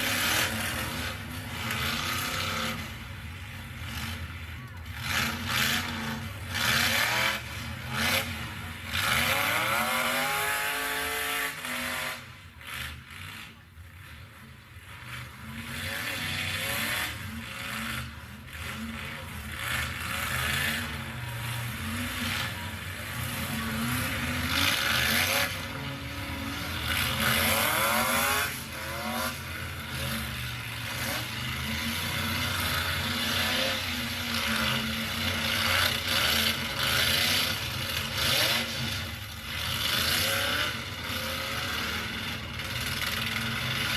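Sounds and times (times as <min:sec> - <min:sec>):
truck engines revving: 0:00.0 - 0:43.9.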